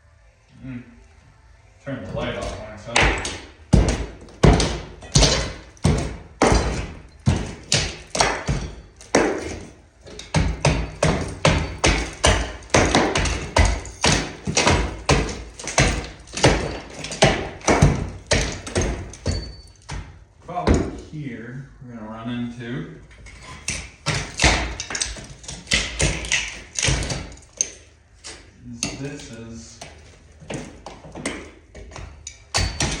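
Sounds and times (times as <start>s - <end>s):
hammer breaking plaster: 2.3s - 21.0s, 23.3s - 33.0s.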